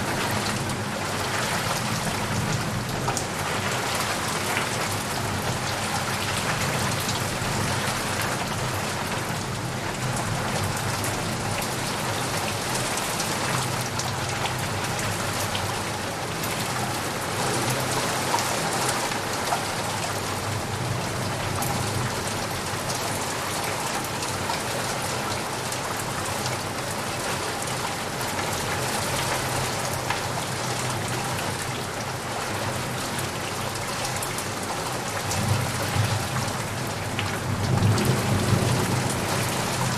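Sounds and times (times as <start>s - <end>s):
heavy rain on leaves and puddles: 0.0s - 39.9s.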